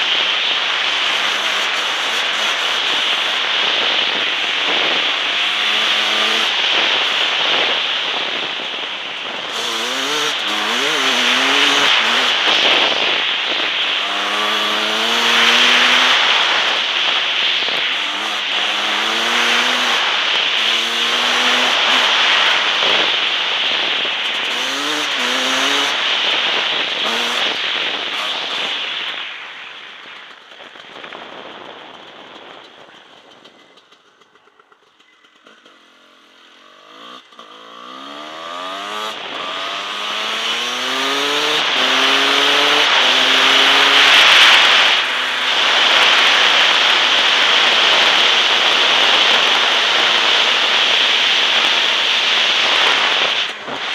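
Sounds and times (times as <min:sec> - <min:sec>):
wind rushing over microphone: 0:00.0 - 0:33.6, 0:36.9 - 0:53.9
motorcycle engine accelerating: 0:00.0 - 0:53.9.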